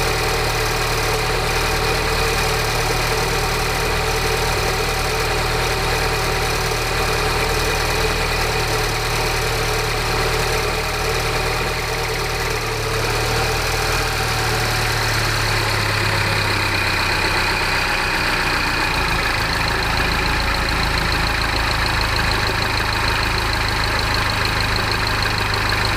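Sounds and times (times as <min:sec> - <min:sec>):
car engine idling with rattle: 0:00.0 - 0:25.9.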